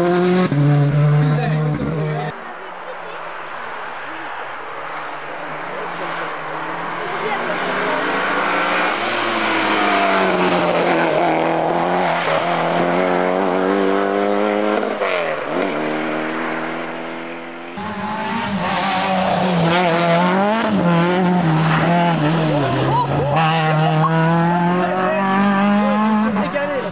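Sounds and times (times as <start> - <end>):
rally car engine revving: 0.0 - 26.9.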